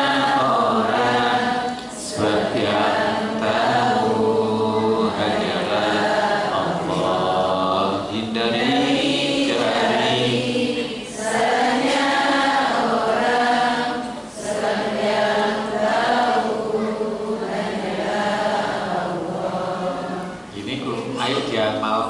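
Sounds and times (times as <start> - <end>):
group chanting a religious song: 0.0 - 21.8.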